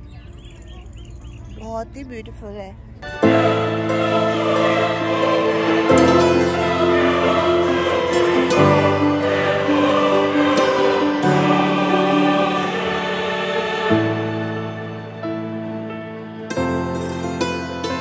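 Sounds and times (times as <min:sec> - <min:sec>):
slow sustained chords music: 0:03.0 - 0:18.0.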